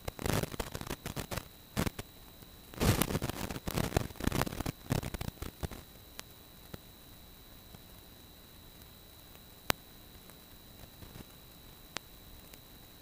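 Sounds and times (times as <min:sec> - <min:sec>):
crackling bursts: 0:00.0 - 0:13.0
steady hiss: 0:00.0 - 0:13.0
thin high whine: 0:00.0 - 0:13.0.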